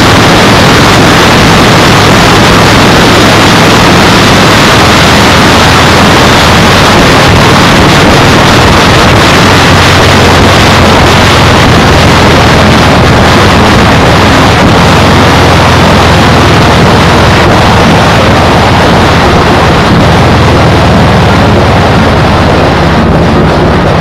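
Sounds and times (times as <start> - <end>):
steady low hum: 0.0 - 24.0
wind rushing over microphone: 0.0 - 24.0.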